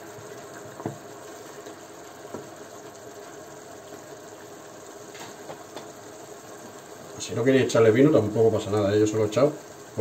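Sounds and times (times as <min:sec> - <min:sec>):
sauce simmering in pan: 0:00.0 - 0:10.0.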